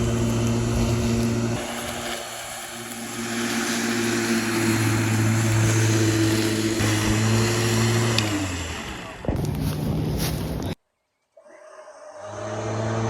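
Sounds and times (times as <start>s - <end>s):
lawn mower running: 0.0s - 10.8s, 12.3s - 13.0s.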